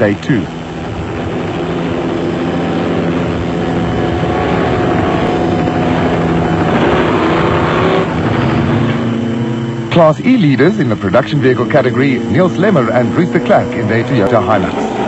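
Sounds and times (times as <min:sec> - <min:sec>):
helicopter drone: 0:00.0 - 0:15.0.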